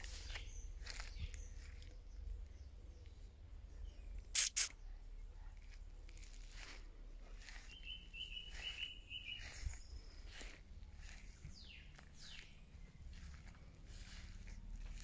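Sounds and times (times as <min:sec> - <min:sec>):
low background rumble: 0:00.0 - 0:15.0
songbird trill: 0:00.0 - 0:15.0.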